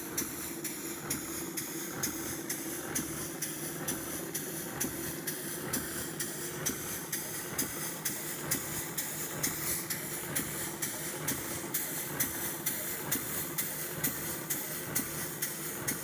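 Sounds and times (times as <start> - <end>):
steam engine beats: 0.0 - 16.0.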